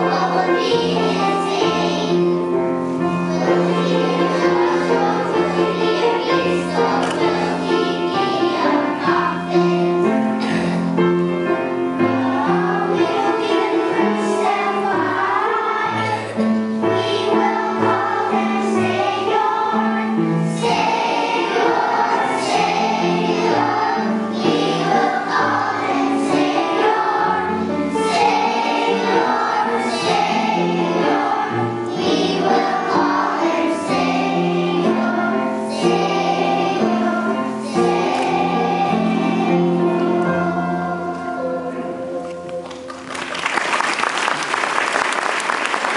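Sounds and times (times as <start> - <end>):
children singing: 0.0 - 42.7
musical accompaniment: 0.0 - 45.9.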